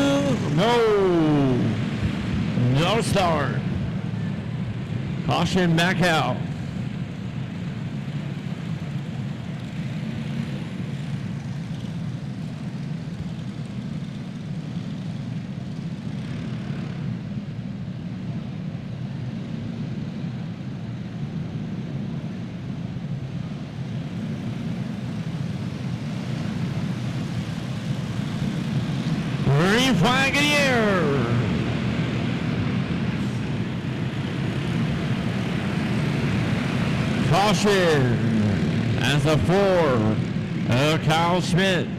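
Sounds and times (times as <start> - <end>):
racing kart engines running: 0.0 - 41.9.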